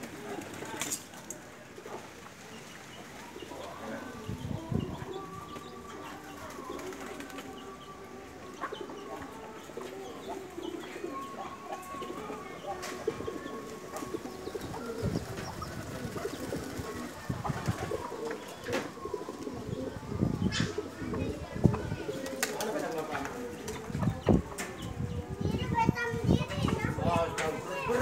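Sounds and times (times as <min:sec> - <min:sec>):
pigeons cooing: 0:01.6 - 0:25.4.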